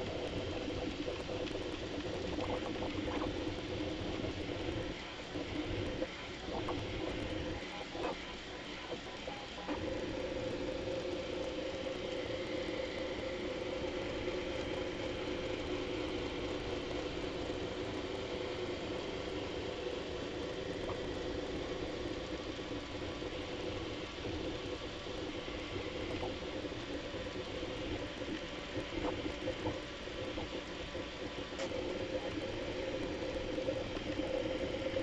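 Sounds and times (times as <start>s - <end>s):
printer motors and fans whirring: 0.0s - 35.0s.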